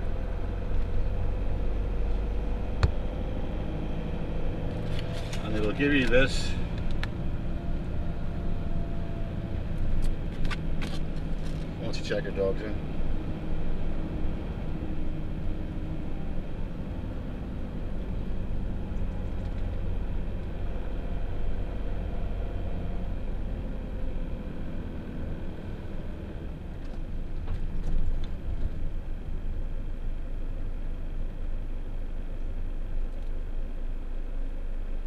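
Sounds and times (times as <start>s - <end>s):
vehicle engine and tyre hum: 0.0s - 35.0s.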